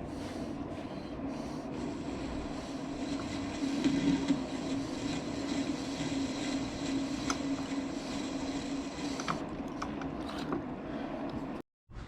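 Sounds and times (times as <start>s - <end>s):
metal lathe humming: 0.0s - 11.6s.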